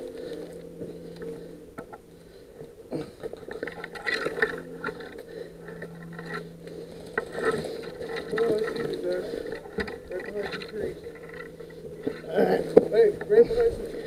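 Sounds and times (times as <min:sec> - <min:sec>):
faint steady hum: 0:00.0 - 0:14.0
gear scraping and rattling: 0:00.0 - 0:14.0.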